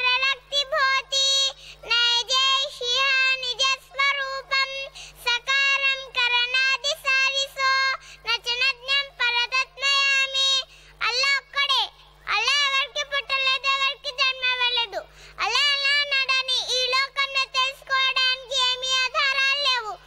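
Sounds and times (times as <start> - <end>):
girl chanting into a microphone: 0.0 - 20.0.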